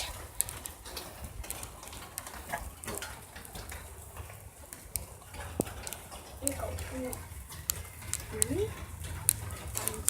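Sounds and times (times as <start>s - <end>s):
rain falling: 0.0s - 10.0s
raindrops ticking on device: 0.0s - 10.0s.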